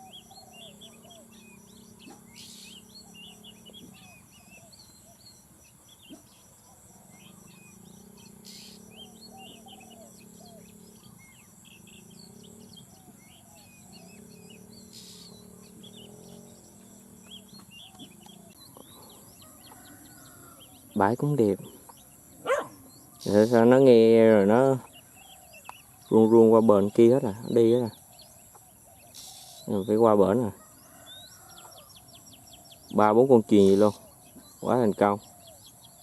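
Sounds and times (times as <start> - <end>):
low warbling bird calls: 0.0 - 36.0
small birds chirping: 0.0 - 36.0.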